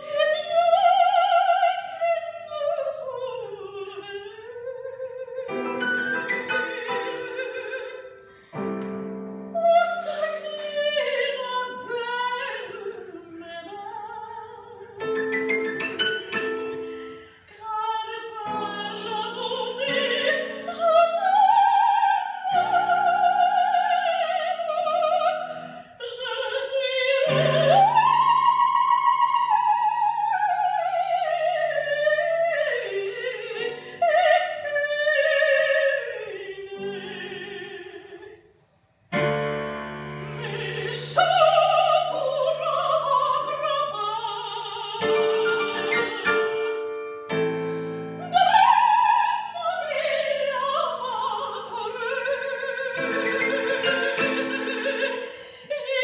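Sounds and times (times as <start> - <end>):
soprano singing opera: 0.0 - 38.4, 39.9 - 56.0.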